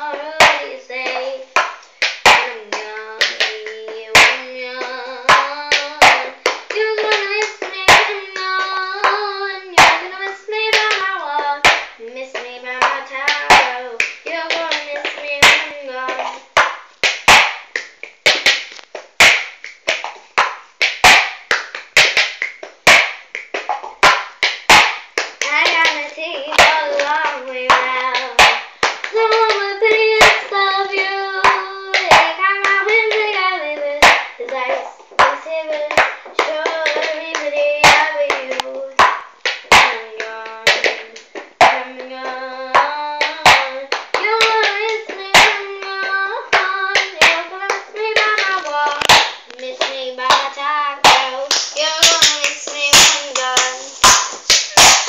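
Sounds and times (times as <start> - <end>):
girl singing: 0.0 - 16.8, 25.2 - 55.0
hand claps: 0.1 - 55.0.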